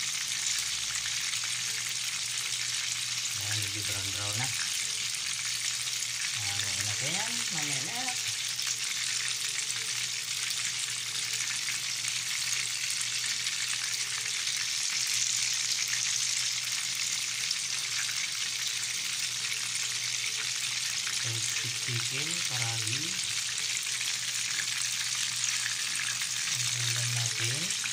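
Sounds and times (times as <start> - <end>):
oil sizzling and crackling: 0.0 - 27.9.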